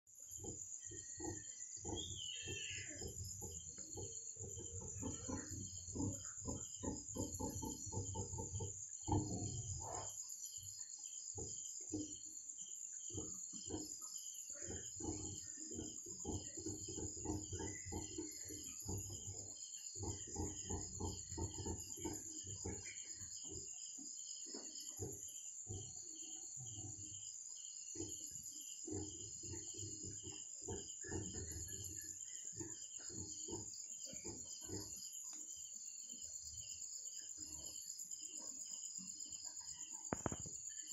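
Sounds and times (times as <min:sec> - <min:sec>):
lower pulsing insect call: 0:00.1 - 0:40.9
insects trilling: 0:00.2 - 0:40.9.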